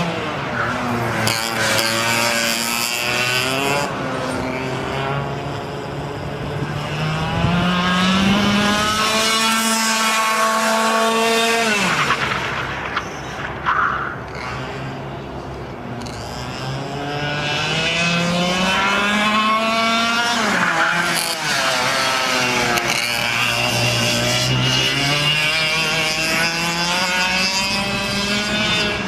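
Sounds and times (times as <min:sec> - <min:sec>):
kart engine running hard: 0:00.0 - 0:29.0.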